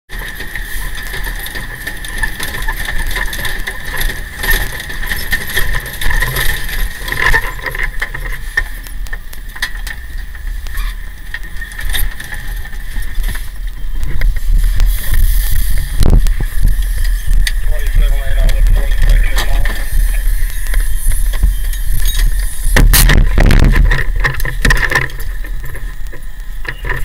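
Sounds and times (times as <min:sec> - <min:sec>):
fire truck engine rumble: 0:00.1 - 0:27.0
rattling and clattering: 0:00.1 - 0:27.0
steady high whine: 0:00.1 - 0:27.0.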